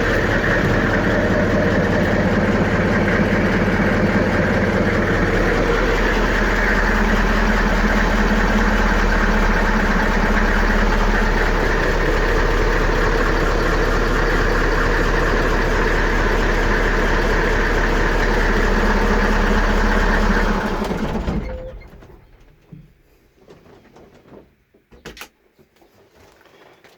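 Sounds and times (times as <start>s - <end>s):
engine running down to stop: 0.0s - 22.5s
diesel engine idling: 0.0s - 22.8s.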